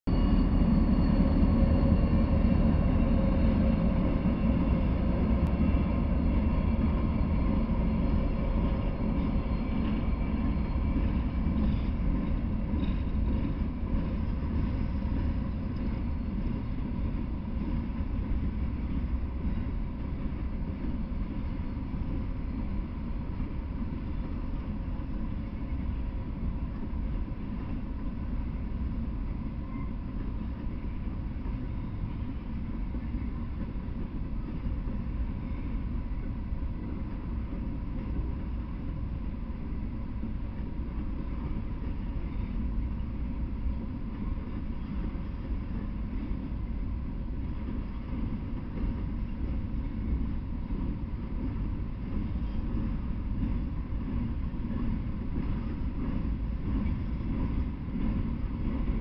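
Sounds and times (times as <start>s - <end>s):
freight train cars rumbling on rails: 0.0s - 59.0s.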